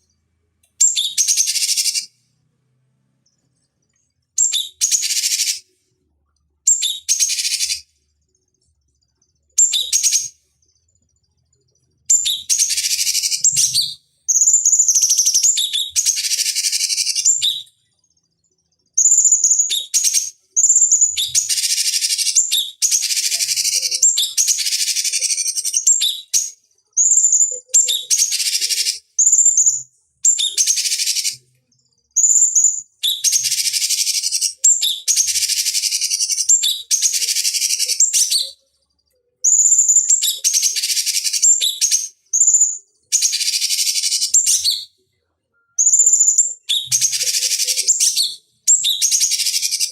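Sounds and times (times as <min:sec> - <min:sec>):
bird chattering song: 0:00.8 - 0:02.2, 0:03.2 - 0:05.8, 0:06.7 - 0:07.9, 0:08.7 - 0:38.7, 0:39.4 - 0:45.0, 0:45.7 - 0:49.9.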